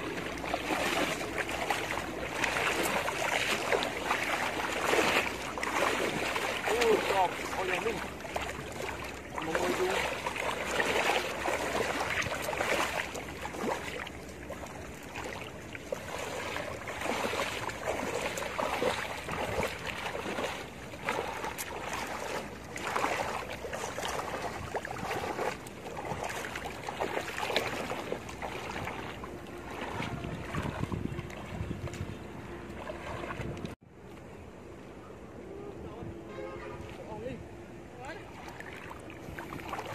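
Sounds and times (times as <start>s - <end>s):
water sloshing around wading legs: 0.0s - 34.3s, 36.4s - 39.9s.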